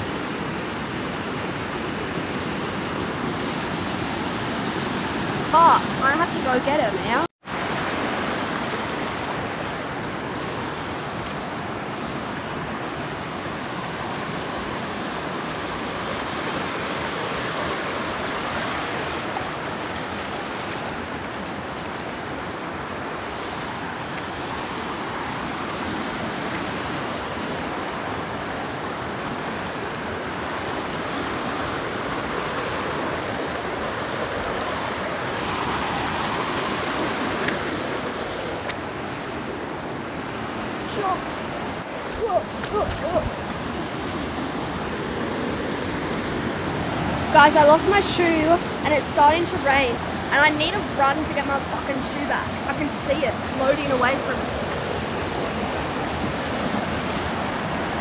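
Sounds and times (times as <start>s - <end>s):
water rushing over rock: 1.6s - 58.0s.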